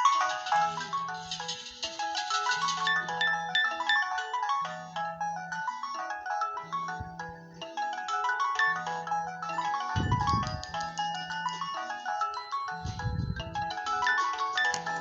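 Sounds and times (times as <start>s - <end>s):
marimba-like phone alarm tune: 0.0s - 15.0s.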